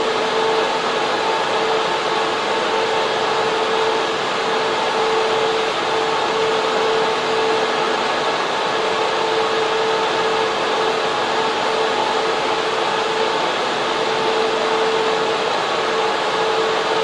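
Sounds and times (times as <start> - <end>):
server cooling fans rushing: 0.0 - 17.0.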